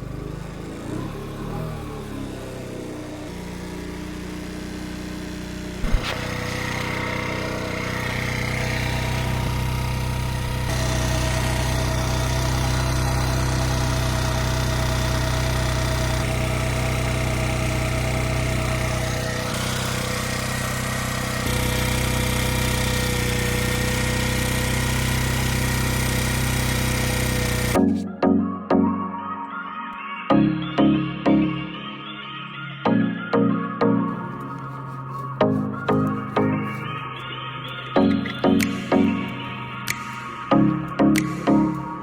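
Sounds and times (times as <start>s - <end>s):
moped engine idling: 0.0s - 28.0s, 34.1s - 42.0s.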